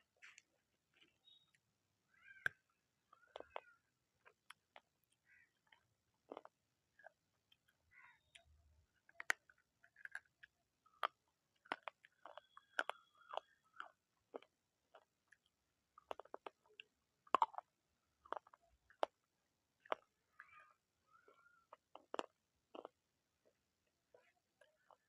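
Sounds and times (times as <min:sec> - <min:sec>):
crunchy food being chewed: 0:00.0 - 0:01.6, 0:02.2 - 0:25.0.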